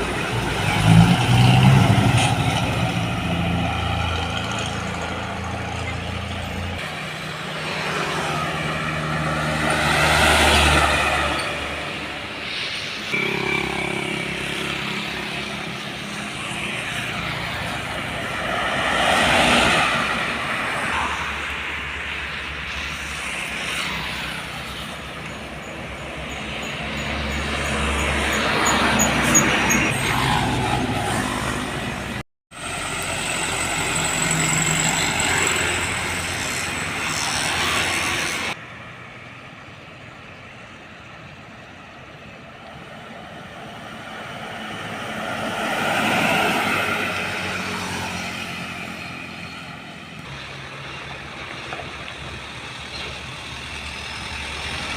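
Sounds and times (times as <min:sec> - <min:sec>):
heavy trucks driving past: 0:00.0 - 0:54.9.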